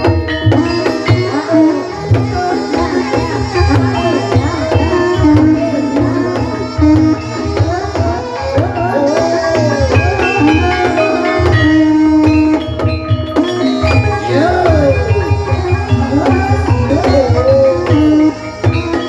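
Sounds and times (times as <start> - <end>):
hand drums beating: 0.0 - 19.0
ringing metallophone notes: 0.0 - 19.0
sliding melodic line: 0.0 - 19.0.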